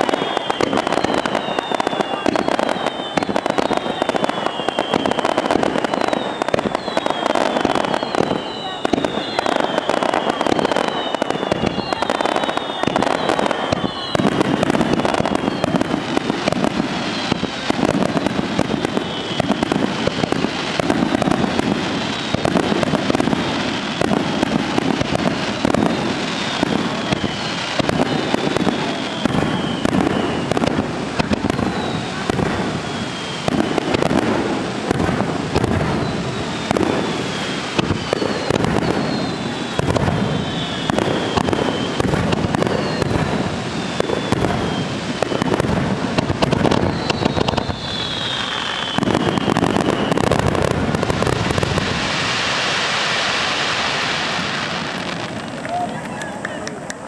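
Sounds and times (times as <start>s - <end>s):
falling firework whistle: 0.0s - 57.0s
fireworks bursts: 0.0s - 57.0s.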